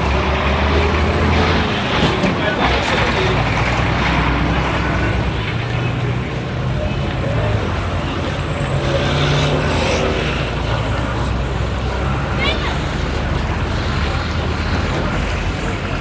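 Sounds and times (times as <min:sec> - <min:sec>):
cars and scooters driving past: 0:00.0 - 0:16.0.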